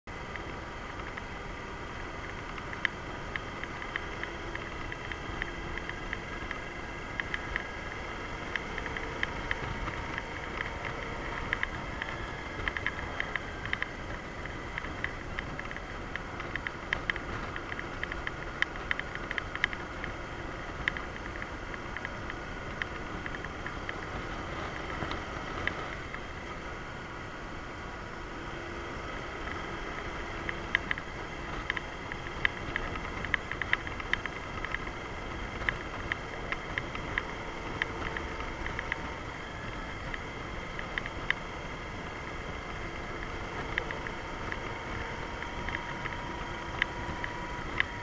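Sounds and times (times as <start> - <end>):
motorcycle riding: 0.1 - 48.0
sharp ticks: 0.3 - 26.3, 29.2 - 41.5, 42.1 - 48.0.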